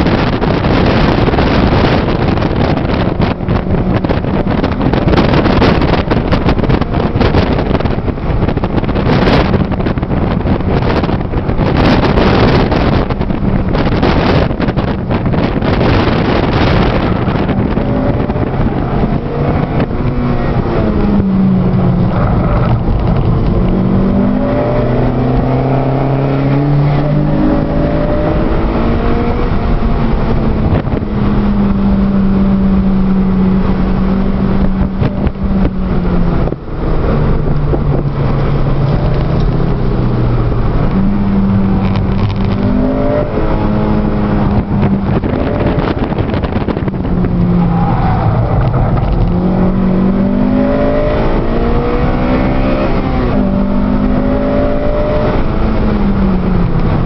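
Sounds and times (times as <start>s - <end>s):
car engine revving: 0.0s - 57.0s
tyre and wind noise: 0.0s - 57.0s.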